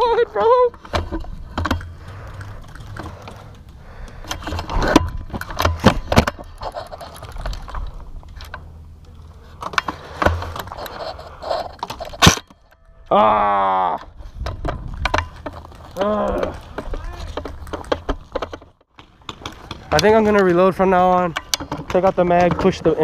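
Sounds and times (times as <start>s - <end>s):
gear knocking and rustling: 0.0s - 12.7s, 14.0s - 23.0s.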